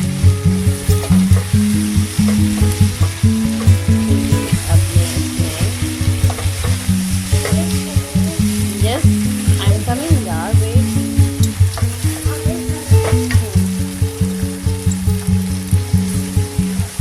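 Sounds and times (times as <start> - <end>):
food sizzling in a frying pan: 0.0 - 17.0
music with pulsing beat: 0.0 - 17.0.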